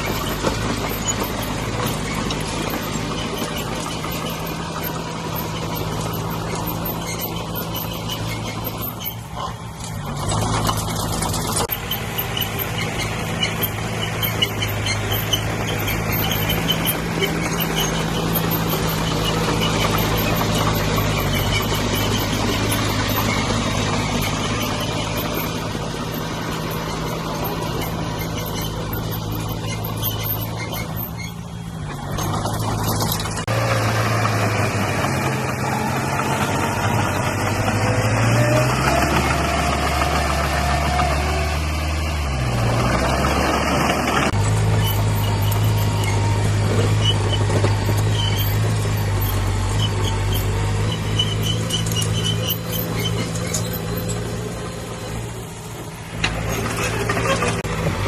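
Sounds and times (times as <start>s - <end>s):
heavy diesel engine revving: 0.0s - 58.0s
rough grinding noise: 0.0s - 58.0s.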